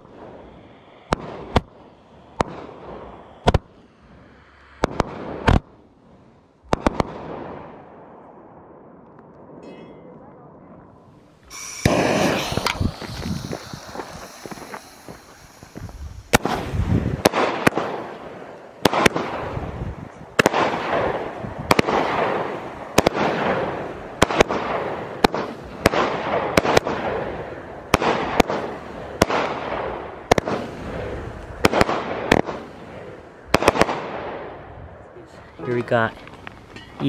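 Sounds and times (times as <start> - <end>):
fireworks bangs with rushing noise: 0.0 - 6.0, 6.6 - 7.9, 11.5 - 34.6.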